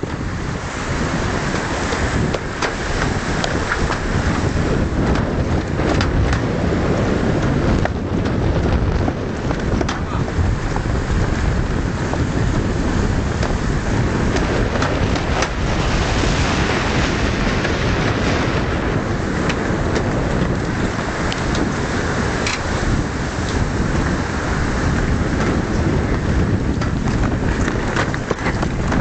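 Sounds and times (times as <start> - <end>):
water rushing along hull: 0.0 - 29.0
wind buffeting microphone: 0.0 - 29.0.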